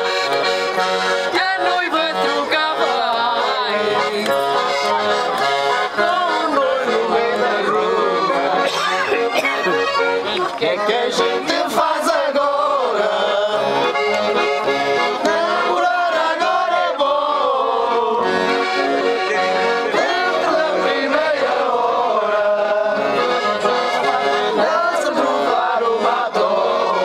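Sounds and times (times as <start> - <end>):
accordion playing folk tune: 0.0 - 27.0.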